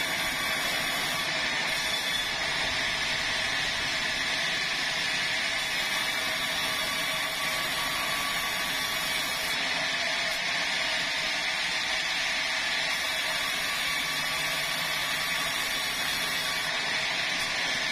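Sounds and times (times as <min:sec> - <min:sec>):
sawmill saw whine and hum: 0:00.0 - 0:17.9.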